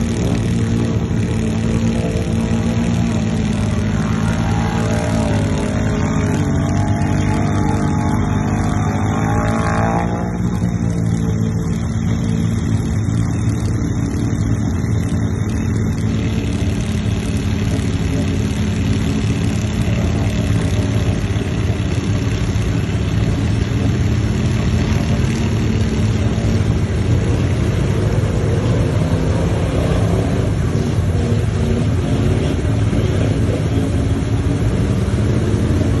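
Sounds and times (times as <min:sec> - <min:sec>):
vehicle engine running loudly: 0:00.0 - 0:36.0.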